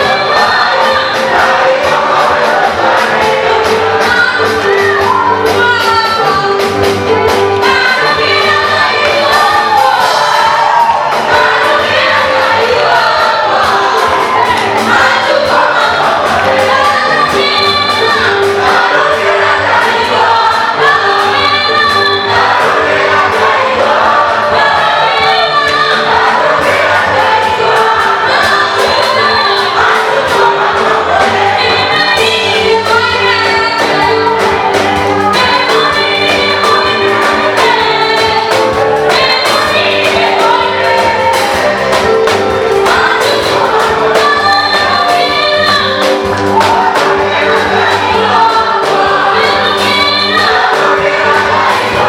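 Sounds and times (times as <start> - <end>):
choir singing gospel: 0.0 - 52.0
held bass notes: 0.0 - 52.0
steady drum beat: 0.0 - 52.0.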